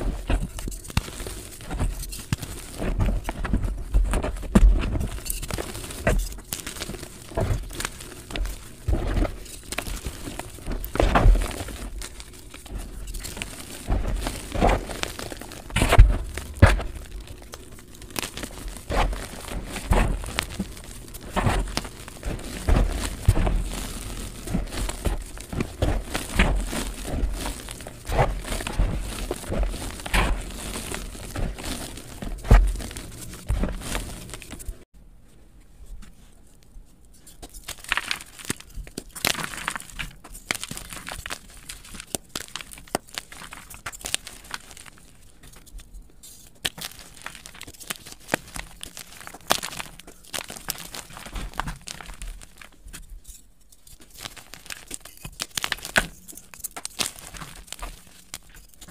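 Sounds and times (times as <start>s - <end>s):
chalk crunching and crackling: 0.0s - 34.9s, 35.8s - 58.9s.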